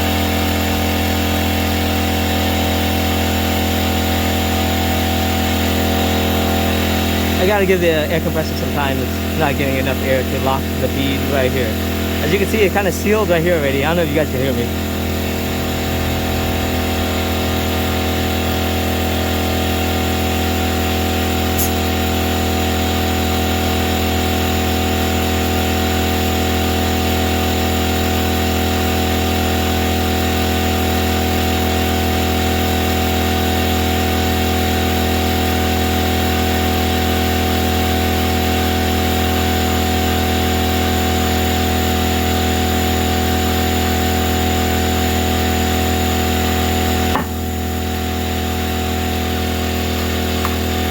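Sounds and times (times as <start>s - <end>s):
air compressor droning: 0.0s - 50.9s.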